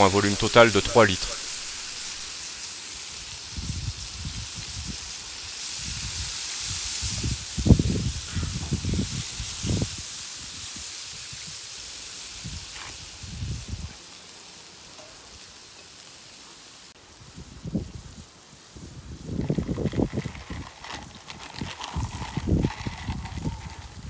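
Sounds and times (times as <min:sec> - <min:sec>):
broth hissing and sizzling in pan: 0:00.0 - 0:19.8.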